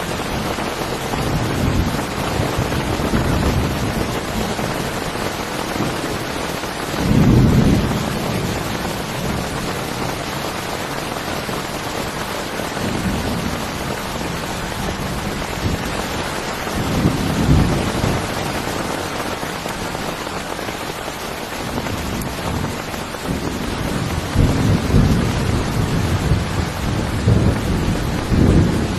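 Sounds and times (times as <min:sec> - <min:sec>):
thunder rumble: 0:00.0 - 0:20.0, 0:21.6 - 0:28.9
heavy rain: 0:00.0 - 0:28.9.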